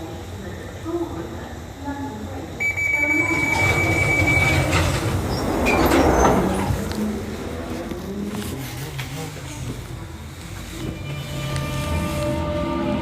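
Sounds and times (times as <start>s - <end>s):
train track noise: 0.0s - 13.0s.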